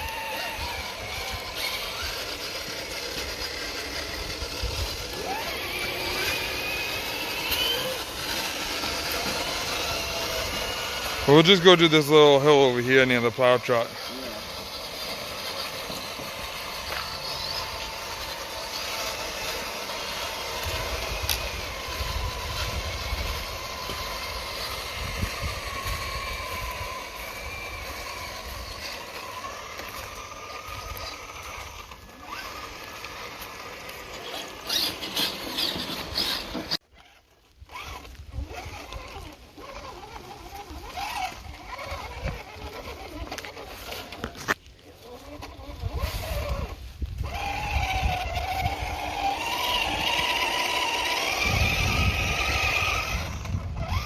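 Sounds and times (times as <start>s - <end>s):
toy truck motors whining: 0.0s - 54.0s.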